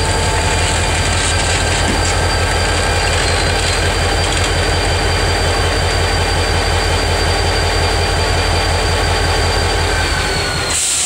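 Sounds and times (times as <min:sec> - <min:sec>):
diesel locomotive low throb: 0:00.0 - 0:10.8
high whine: 0:00.0 - 0:11.0.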